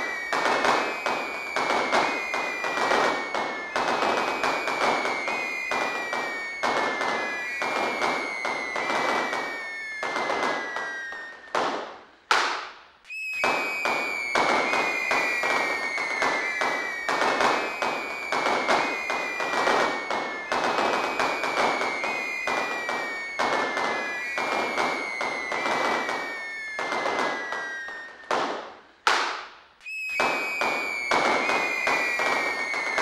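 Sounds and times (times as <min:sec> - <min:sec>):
fireworks crackling: 0:00.0 - 0:33.0
fireworks whistles falling in pitch: 0:00.0 - 0:33.0.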